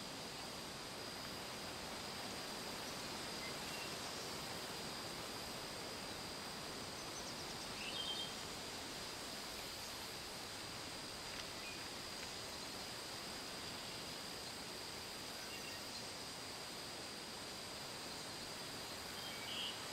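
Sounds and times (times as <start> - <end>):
steady outdoor hiss: 0.0 - 19.9.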